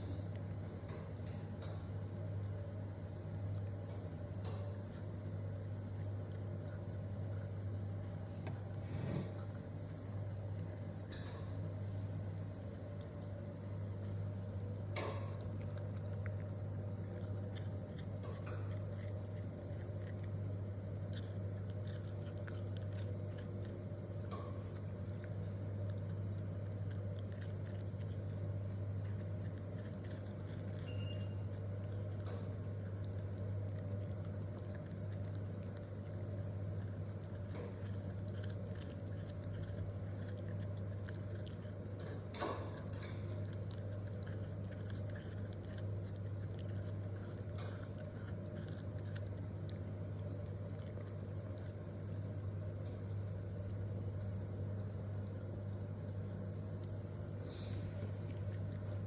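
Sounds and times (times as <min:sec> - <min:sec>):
puppy crunching a carrot: 0:00.0 - 0:59.0
steady low hum: 0:00.0 - 0:59.0.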